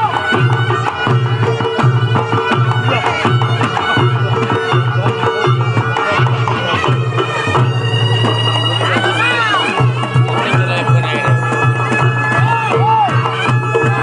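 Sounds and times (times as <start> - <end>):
hand drums beating fast: 0.0 - 14.0.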